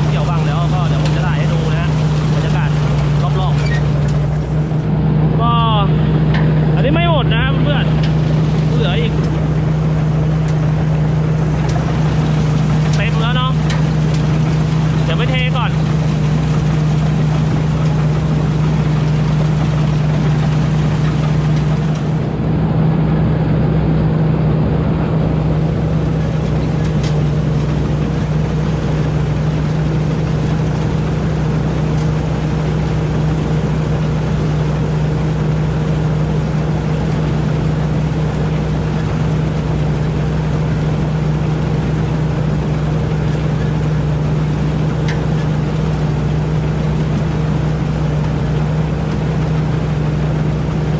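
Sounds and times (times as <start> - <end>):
combine harvester engine running: 0.0 - 50.9.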